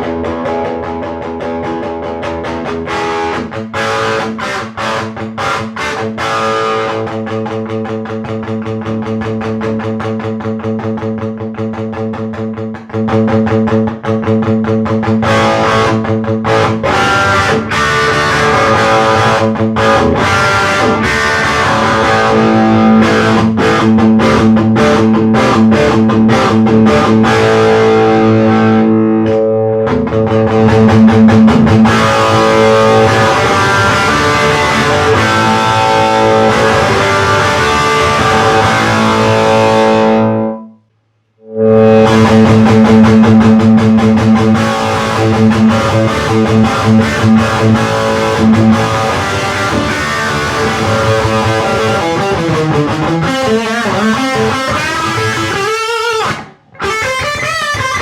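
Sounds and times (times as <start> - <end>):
distorted electric guitar riffing: 0.0 - 40.8, 41.4 - 58.0.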